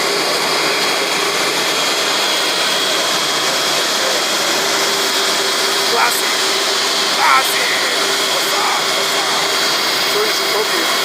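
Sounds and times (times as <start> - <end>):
jet aircraft roar and whine: 0.0 - 11.0.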